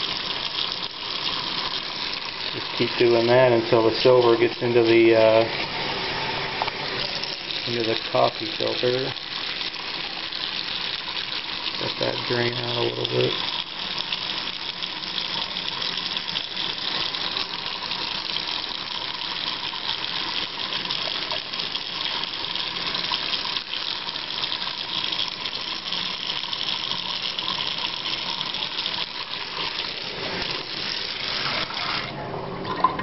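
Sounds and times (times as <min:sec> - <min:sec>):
water running: 0:00.0 - 0:33.0.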